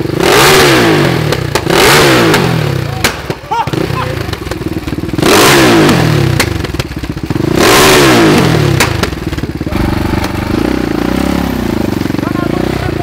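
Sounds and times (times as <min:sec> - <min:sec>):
dirt bike engine revving: 0:00.0 - 0:13.0
exhaust cracks: 0:01.2 - 0:13.0.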